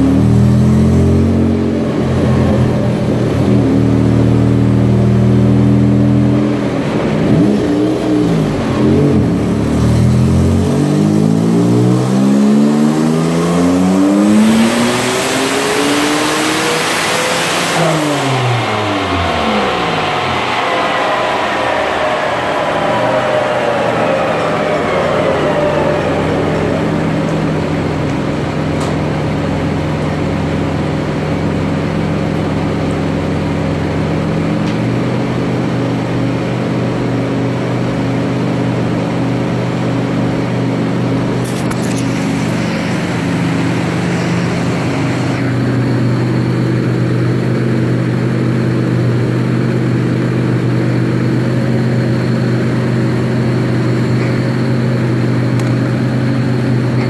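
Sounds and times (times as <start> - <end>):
car engine running on dyno: 0.0 - 57.0.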